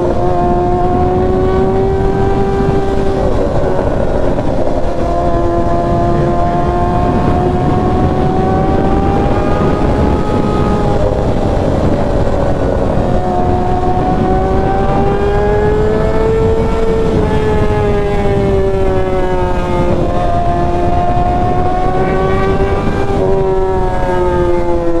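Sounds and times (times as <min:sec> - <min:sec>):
motorcycle engine at high revs: 0:00.0 - 0:25.0.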